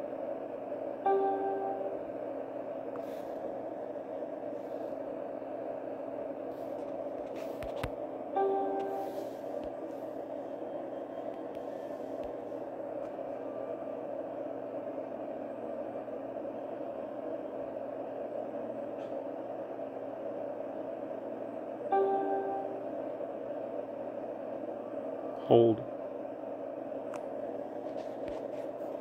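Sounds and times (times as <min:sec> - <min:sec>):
electrical static with low hum: 0:00.0 - 0:29.0.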